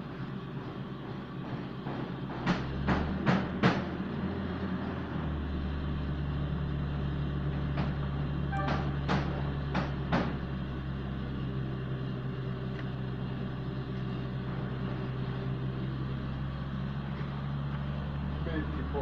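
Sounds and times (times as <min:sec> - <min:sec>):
low engine-like drone: 0:00.0 - 0:19.0.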